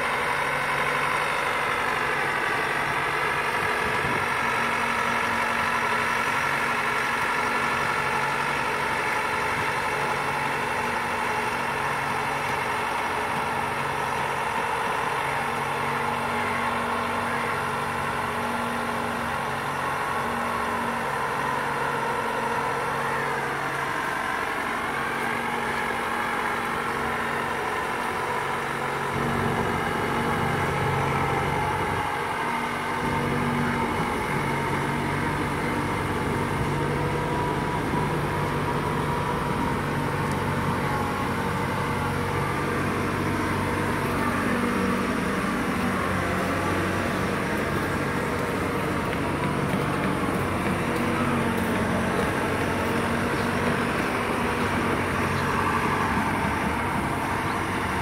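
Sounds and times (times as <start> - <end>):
boat hoist engine running: 0.0 - 58.0.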